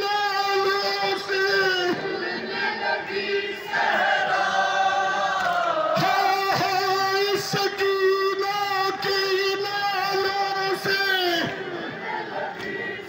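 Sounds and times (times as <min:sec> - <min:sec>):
men chanting a lament in unison: 0:00.0 - 0:13.0.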